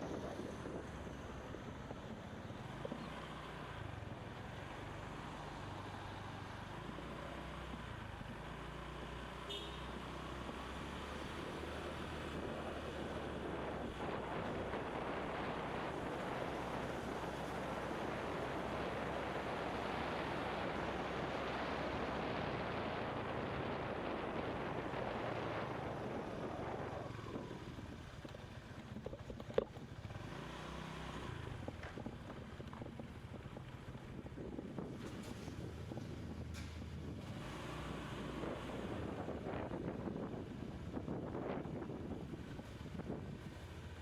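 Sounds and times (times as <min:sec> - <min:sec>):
wind rushing over microphone: 0:00.0 - 0:04.0, 0:11.6 - 0:43.7.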